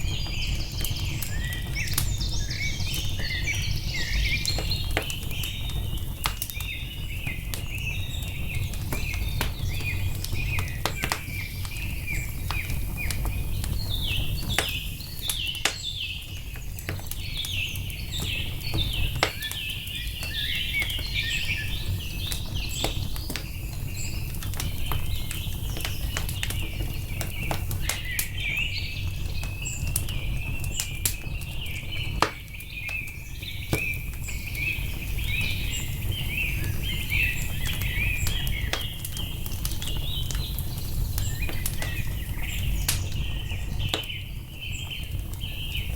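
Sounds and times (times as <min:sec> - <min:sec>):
songbirds chirping: 0:00.0 - 0:45.9
wood fire crackling and popping: 0:00.0 - 0:45.9.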